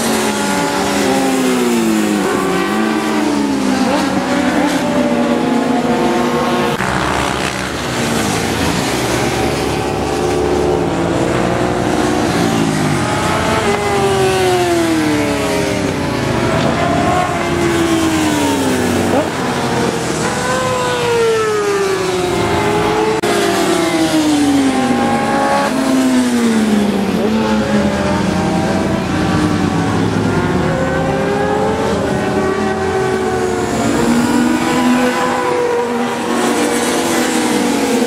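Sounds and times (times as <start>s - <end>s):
racing motorcycles passing: 0.0s - 38.0s.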